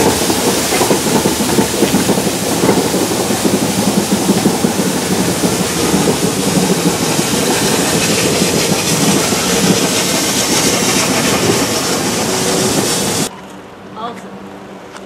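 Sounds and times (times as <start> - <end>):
steam locomotive rushing and rumbling: 0.0 - 13.3.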